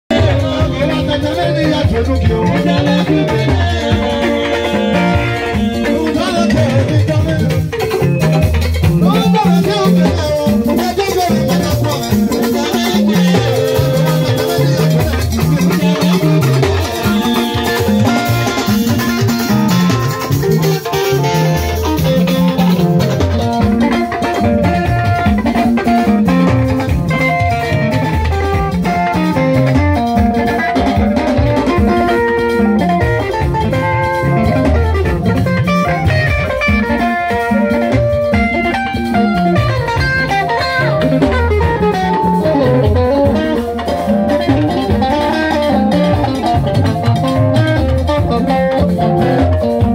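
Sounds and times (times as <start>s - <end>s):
electric guitar: 0.0s - 49.9s
bass line: 0.1s - 49.9s
drum kit: 0.1s - 49.9s.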